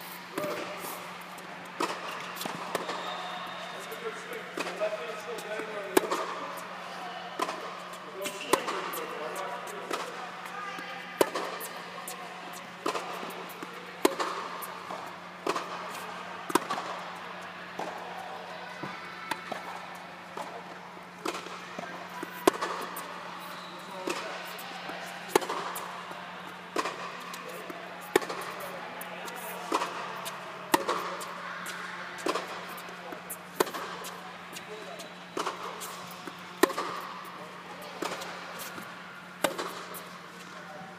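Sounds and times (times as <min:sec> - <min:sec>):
racket hitting tennis ball: 0:00.0 - 0:03.1, 0:03.8 - 0:06.6, 0:07.4 - 0:12.2, 0:12.8 - 0:17.0, 0:19.3 - 0:24.6, 0:25.2 - 0:40.6
steady low hum: 0:00.0 - 0:40.9
tennis ball bouncing: 0:00.4 - 0:06.6, 0:07.4 - 0:12.2, 0:12.8 - 0:17.0, 0:18.8 - 0:23.1, 0:25.3 - 0:40.6.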